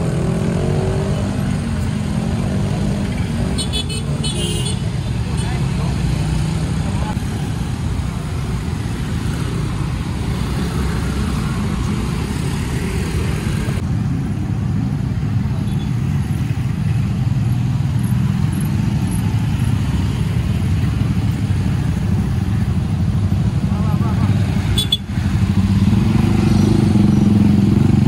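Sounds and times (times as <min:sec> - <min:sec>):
scooters and motorcycles passing: 0:00.0 - 0:28.0.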